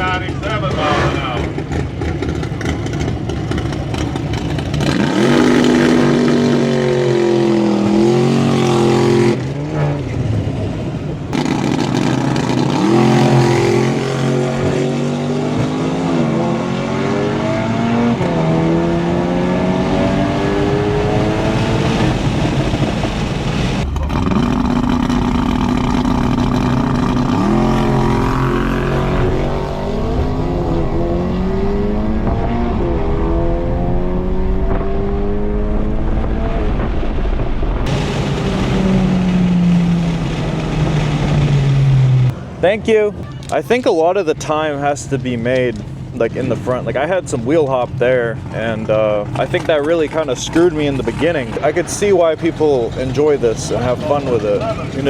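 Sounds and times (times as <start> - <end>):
car engine accelerating hard: 0.0 - 43.0, 43.6 - 55.0.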